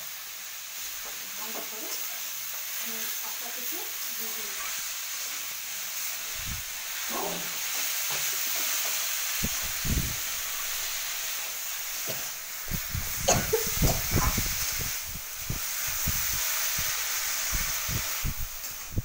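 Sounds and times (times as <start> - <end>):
greens sizzling in oil: 0.0 - 19.0.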